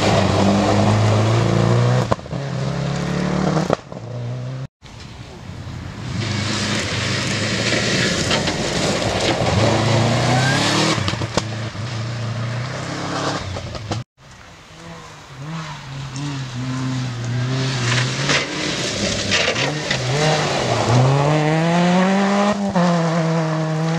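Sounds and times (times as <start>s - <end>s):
rally car engine revving: 0.0s - 4.7s, 6.0s - 14.0s, 14.7s - 23.9s
second rally car engine: 0.0s - 4.7s, 6.0s - 23.9s.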